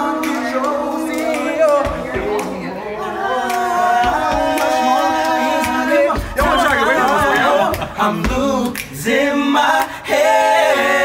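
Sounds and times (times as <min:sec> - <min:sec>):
male vocal group singing a cappella: 0:00.0 - 0:11.0.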